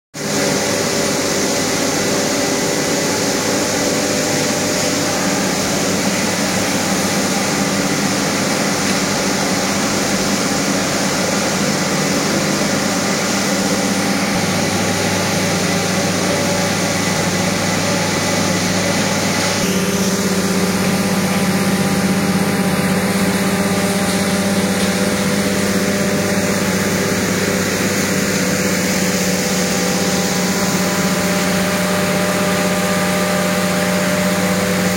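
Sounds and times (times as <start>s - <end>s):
machine droning: 0.2s - 34.9s.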